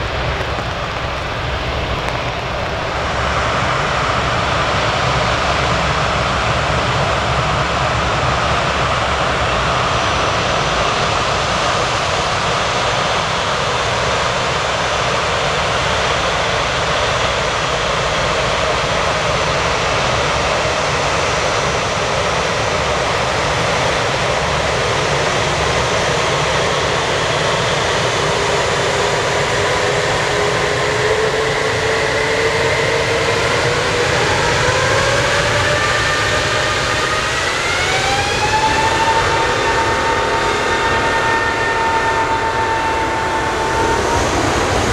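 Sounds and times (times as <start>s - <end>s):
jet engines roaring: 0.0s - 44.9s
rising engine whine: 0.0s - 44.9s.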